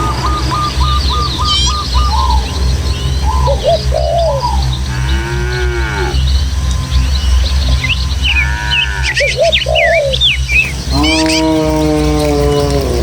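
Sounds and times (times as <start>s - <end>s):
bird call rising and falling: 0.0s - 12.9s
birds singing and chirping: 0.0s - 13.0s
steady low rumble: 0.0s - 13.0s.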